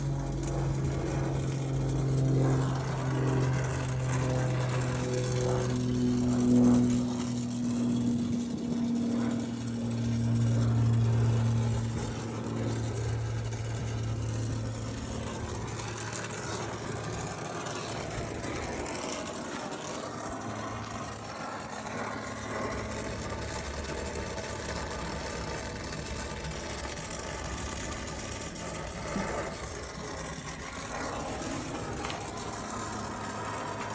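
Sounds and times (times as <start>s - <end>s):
machine humming: 0.0s - 33.9s.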